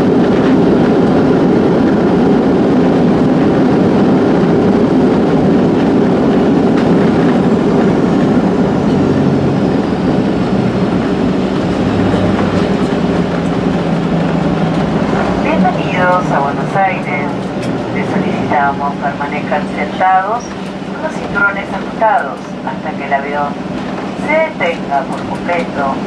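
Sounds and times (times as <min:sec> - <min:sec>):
aircraft cabin rumble: 0:00.0 - 0:26.0.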